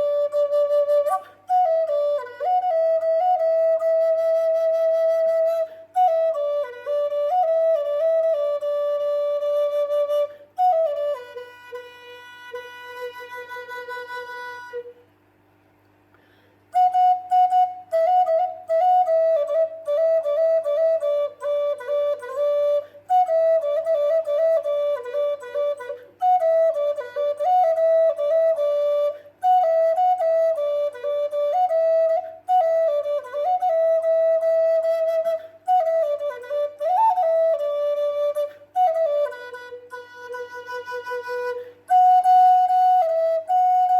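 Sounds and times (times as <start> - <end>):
solo flute melody: 0.0 - 15.1, 16.7 - 43.9.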